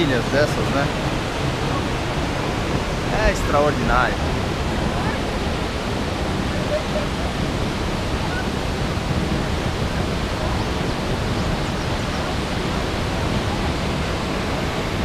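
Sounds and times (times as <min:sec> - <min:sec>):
waterfall and rapids rushing: 0:00.0 - 0:15.0.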